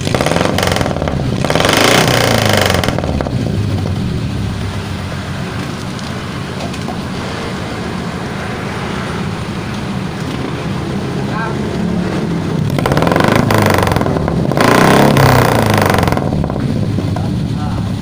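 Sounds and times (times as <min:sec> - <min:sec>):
four-cylinder engine revving and idling: 0:00.0 - 0:18.0.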